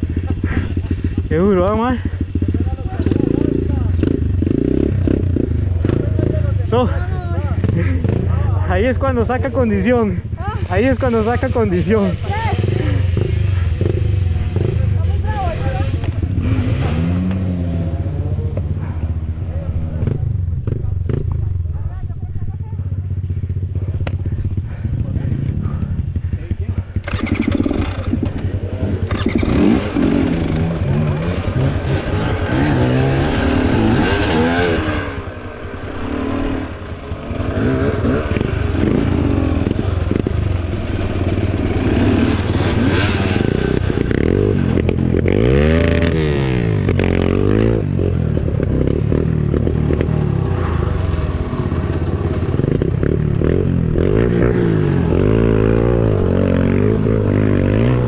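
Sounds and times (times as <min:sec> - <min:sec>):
dirt bike engine revving: 0:00.0 - 0:21.4, 0:23.0 - 0:58.0.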